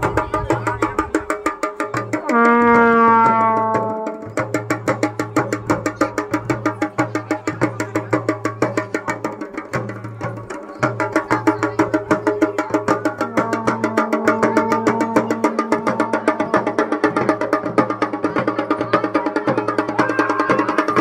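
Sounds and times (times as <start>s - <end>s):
dhol drumming: 0.0s - 21.0s.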